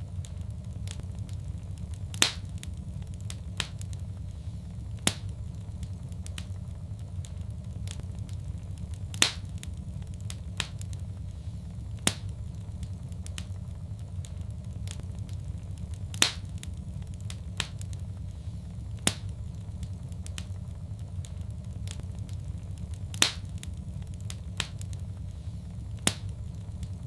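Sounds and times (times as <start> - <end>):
fire crackling and popping: 0.0 - 27.0
low rumble of flame: 0.0 - 27.0.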